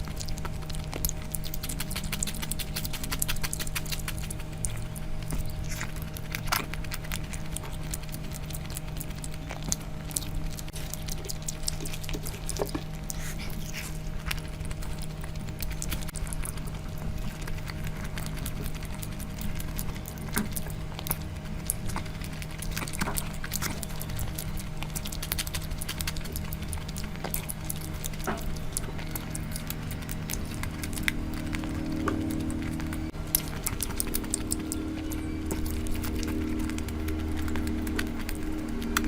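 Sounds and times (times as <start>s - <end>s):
chewing and lip smacking: 0.0s - 39.0s
steady low hum: 0.0s - 39.0s.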